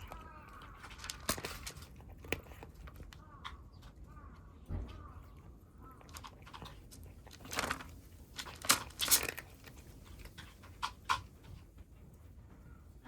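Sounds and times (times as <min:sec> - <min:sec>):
loud sharp chewing: 0:00.0 - 0:12.2
kittens eating: 0:00.0 - 0:13.0.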